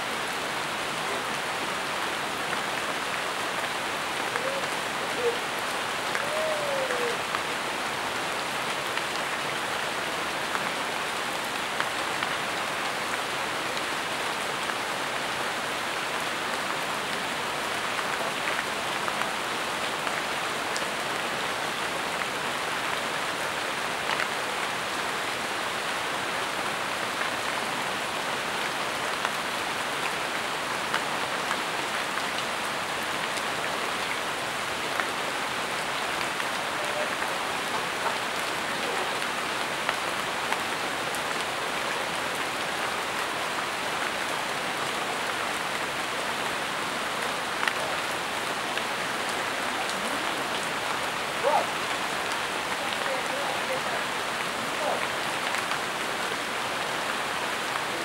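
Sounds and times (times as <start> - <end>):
rain on foliage: 0.0 - 58.0.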